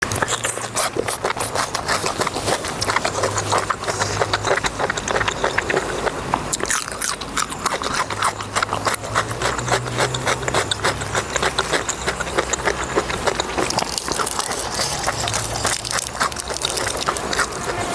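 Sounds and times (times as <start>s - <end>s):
person biting and chewing: 0.0s - 17.9s.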